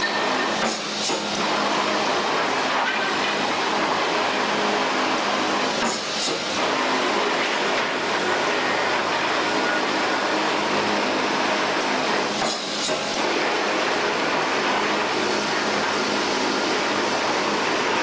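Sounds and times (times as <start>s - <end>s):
factory machine noise: 0.0s - 18.0s.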